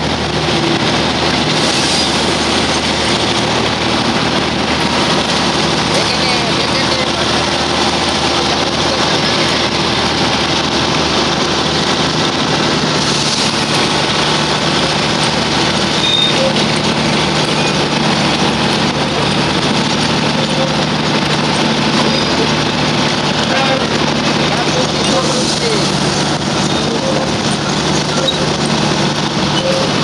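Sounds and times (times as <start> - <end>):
train running noise with low hum: 0.0 - 30.0.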